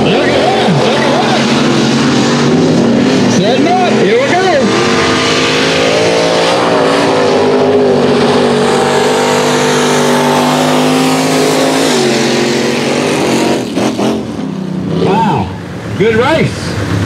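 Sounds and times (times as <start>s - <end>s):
truck engines racing at high revs: 0.0s - 17.0s.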